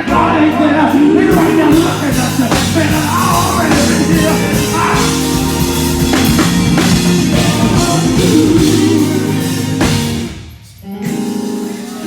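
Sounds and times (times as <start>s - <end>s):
person singing: 0.0s - 10.0s
drum kit strikes: 0.0s - 12.0s
guitar: 0.0s - 12.0s
sustained keyboard chords: 0.0s - 12.0s.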